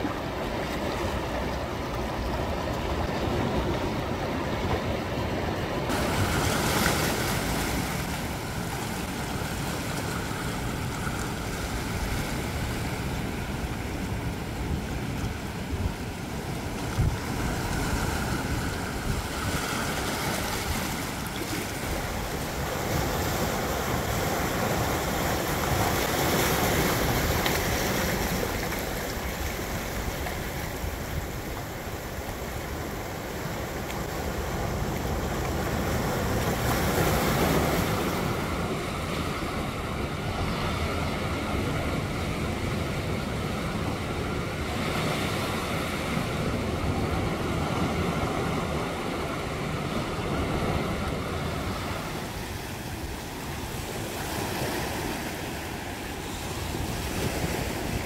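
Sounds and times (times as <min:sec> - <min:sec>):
sea waves washing on rocks: 0:00.0 - 0:58.0.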